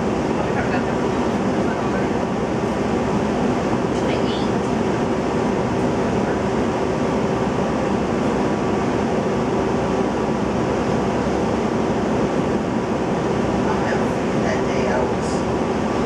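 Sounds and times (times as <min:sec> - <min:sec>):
bus engine hum: 0:00.0 - 0:16.0.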